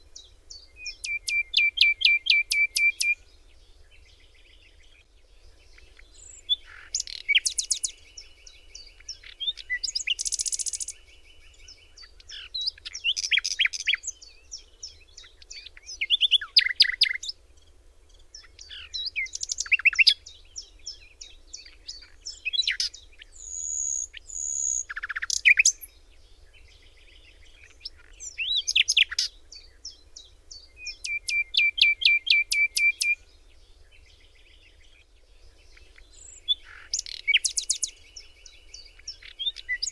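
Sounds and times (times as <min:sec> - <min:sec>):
bird chirping and trilling: 0:00.5 - 0:03.2, 0:05.6 - 0:17.3, 0:18.3 - 0:26.0, 0:27.0 - 0:33.3, 0:35.6 - 0:39.9.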